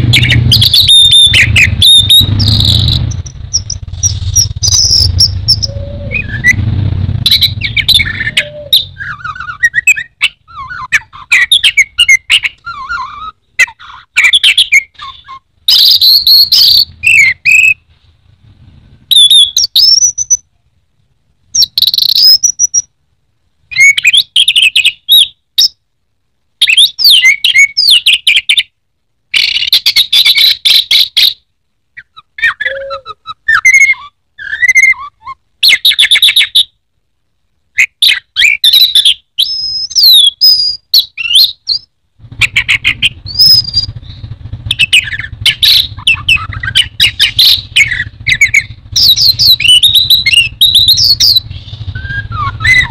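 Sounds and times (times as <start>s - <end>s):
thrush singing whistles: 0.0s - 17.9s, 19.1s - 20.5s, 21.5s - 22.9s, 23.7s - 25.8s, 26.6s - 28.7s, 29.3s - 31.4s, 32.0s - 36.8s, 37.8s - 52.9s.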